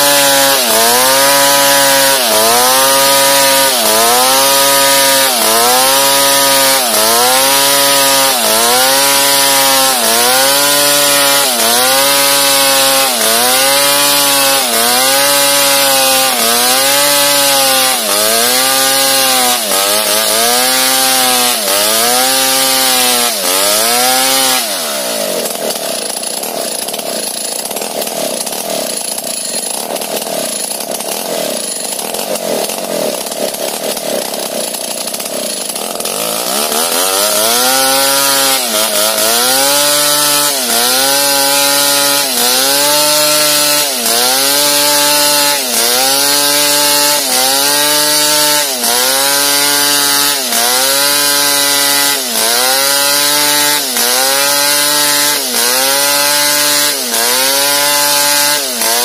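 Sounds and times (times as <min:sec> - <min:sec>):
chainsaw cutting log under load: 0:00.0 - 0:59.0.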